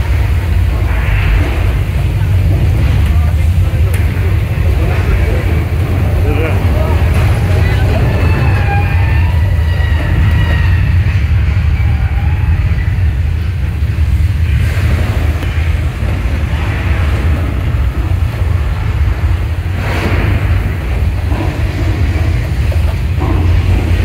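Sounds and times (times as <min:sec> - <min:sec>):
deep earthquake rumble: 0:00.0 - 0:24.0.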